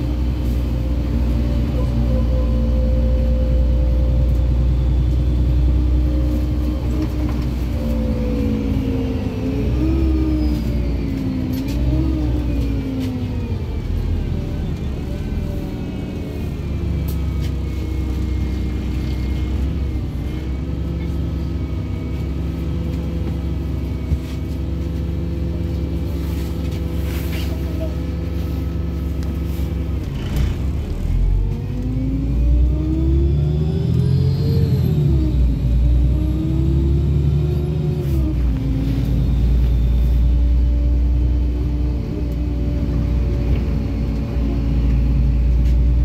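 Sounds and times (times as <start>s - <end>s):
bus engine hum: 0.0s - 46.0s.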